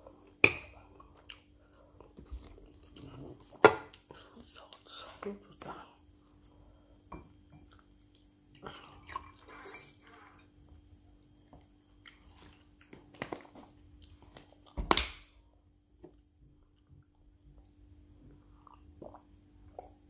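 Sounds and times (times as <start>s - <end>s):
chewing and wet mouth sounds: 0.0s - 14.8s, 15.7s - 20.0s.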